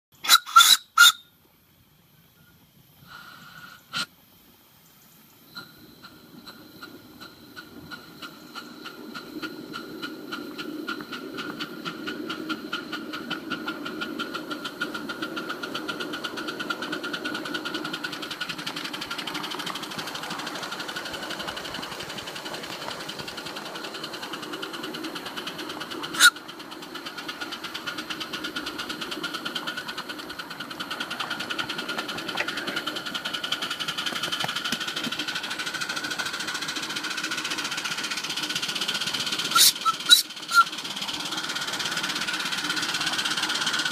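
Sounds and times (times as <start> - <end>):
steam locomotive chuffing: 0.2 - 43.9.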